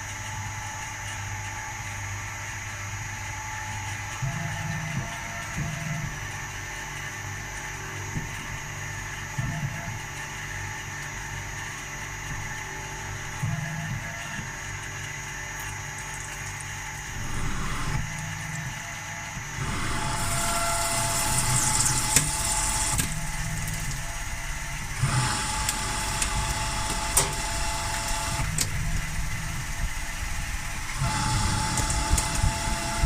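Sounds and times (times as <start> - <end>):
milling machine running: 0.1 - 33.0.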